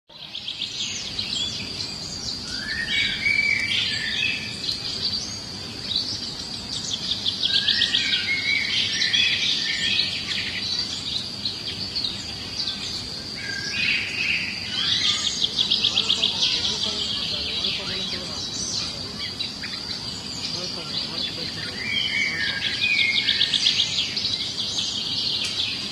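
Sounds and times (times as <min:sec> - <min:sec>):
small birds chirping and trilling: 0:00.1 - 0:25.9.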